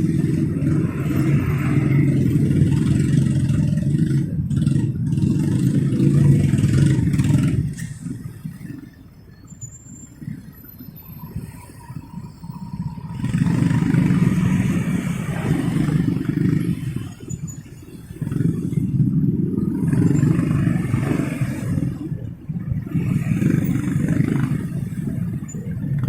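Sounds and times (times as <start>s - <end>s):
motorcycle engine: 0.0s - 8.6s, 12.6s - 26.0s
road noise: 0.0s - 26.0s.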